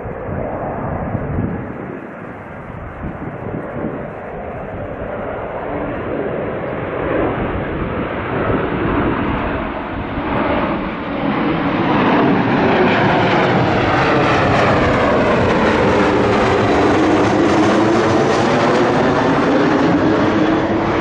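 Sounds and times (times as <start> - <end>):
airliner engines: 0.0 - 21.0.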